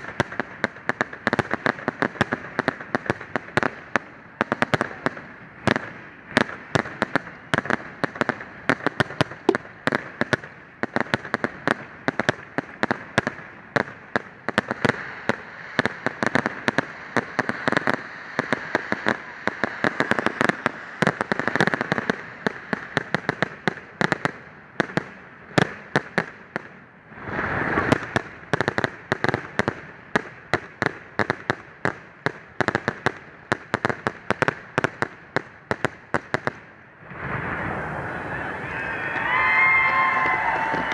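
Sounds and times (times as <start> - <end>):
fireworks rushing swell: 0.0 - 31.6, 36.2 - 40.9
fireworks popping and banging: 0.0 - 37.6, 39.0 - 40.9.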